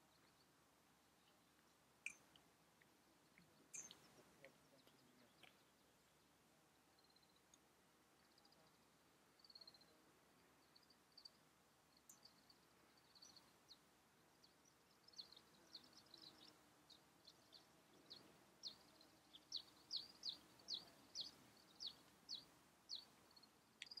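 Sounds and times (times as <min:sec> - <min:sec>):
bird chirping: 0:00.0 - 0:02.4, 0:03.2 - 0:07.6, 0:08.2 - 0:24.0.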